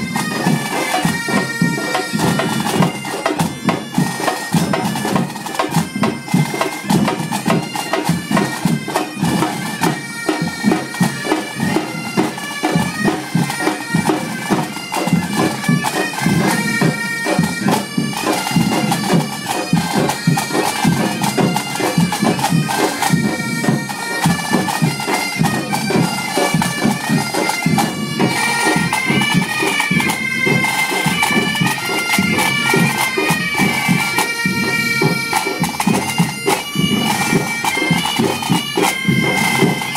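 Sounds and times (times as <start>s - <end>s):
bagpipes playing melody: 0.0s - 39.9s.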